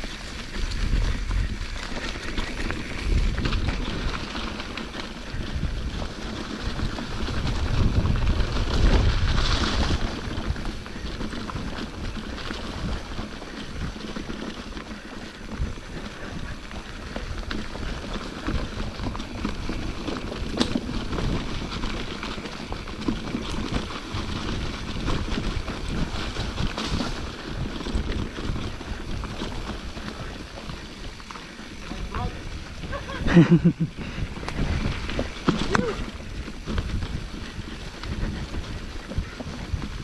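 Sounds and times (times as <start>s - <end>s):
bike rattling over dirt trail: 0.0s - 40.0s
wind buffeting microphone: 0.0s - 40.0s.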